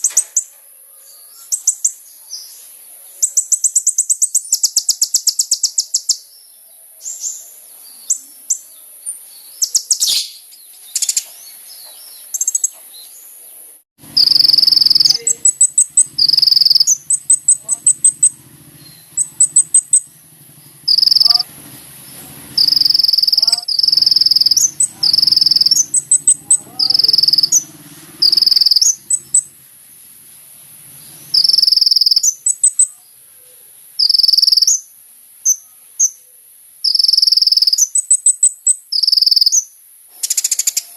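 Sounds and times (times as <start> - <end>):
bird chirping and trilling: 0.0 - 13.3, 14.0 - 30.1, 30.9 - 40.9.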